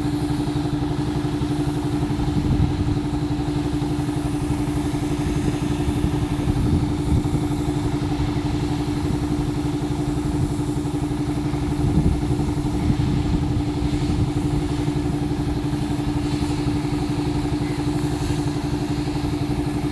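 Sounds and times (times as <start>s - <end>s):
road roller engine running: 0.0s - 19.9s.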